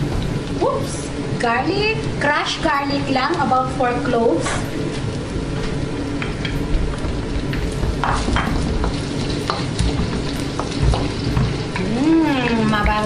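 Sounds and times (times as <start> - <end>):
garlic sizzling in oil: 0.0 - 13.0.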